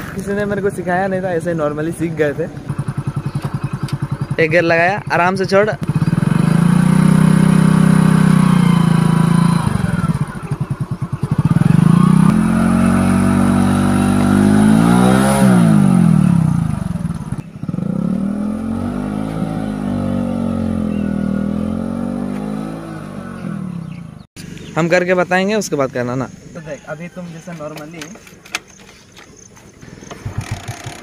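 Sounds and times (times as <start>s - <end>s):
motorcycle engine revving: 0.0s - 24.7s, 29.8s - 31.0s.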